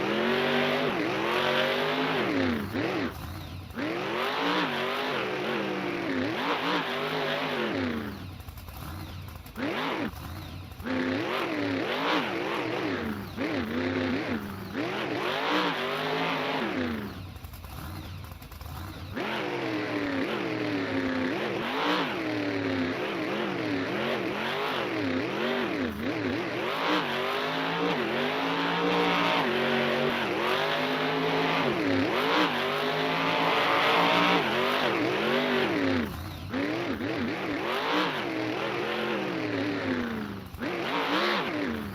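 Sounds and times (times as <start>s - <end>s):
monster truck engine revving: 0.0s - 41.9s.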